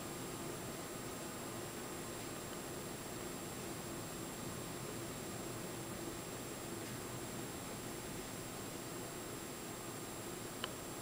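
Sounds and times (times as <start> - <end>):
faint high whine: 0.0 - 11.0
recording hiss: 0.0 - 11.0.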